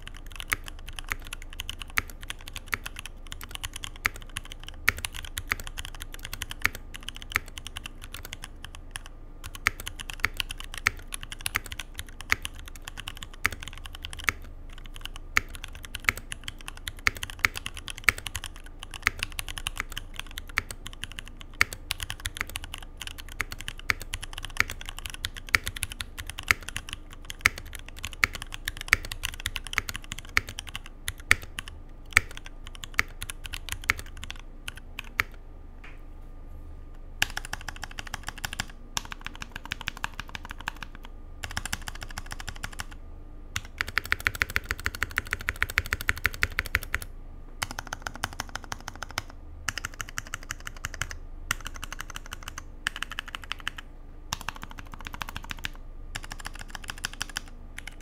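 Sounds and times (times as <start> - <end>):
mechanical keyboard typing: 0.0 - 35.4, 37.2 - 43.0, 43.6 - 58.0.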